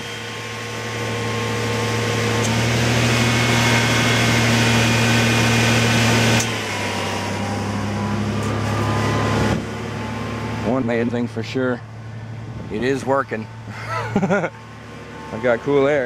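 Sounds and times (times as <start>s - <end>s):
car engine droning: 0.0s - 16.0s
electric cooling fans: 0.0s - 16.0s.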